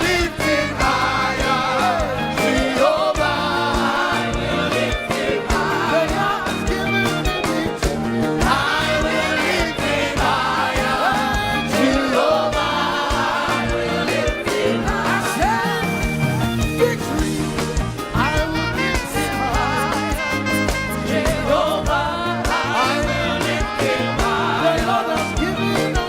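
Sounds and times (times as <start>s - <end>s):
band playing: 0.0s - 26.0s
gospel singers: 0.0s - 26.0s
steady drum beat: 0.0s - 26.0s.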